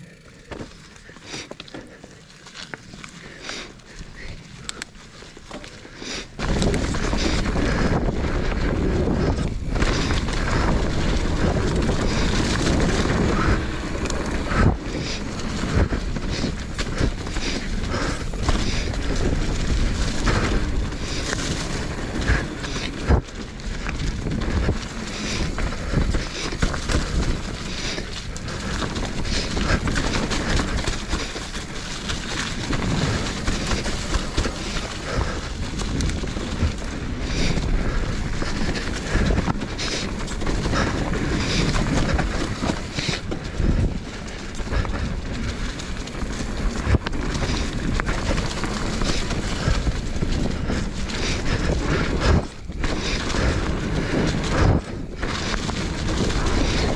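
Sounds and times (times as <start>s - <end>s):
bike tyres rumbling over rock: 0.0s - 56.9s
wind buffeting microphone: 6.3s - 56.9s
bike clattering over rocks: 6.4s - 56.9s.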